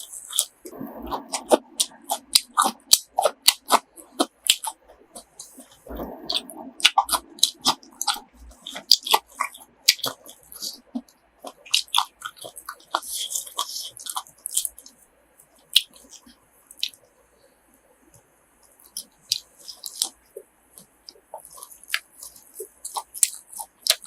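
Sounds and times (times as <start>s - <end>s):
crisp crunchy chewing: 0.0s - 17.0s, 18.7s - 24.0s.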